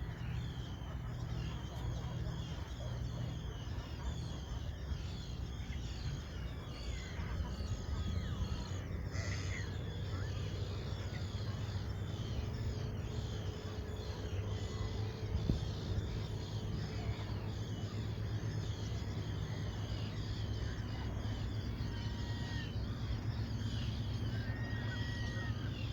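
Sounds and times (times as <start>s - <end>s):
birds chirping and calling: 0.0s - 25.9s.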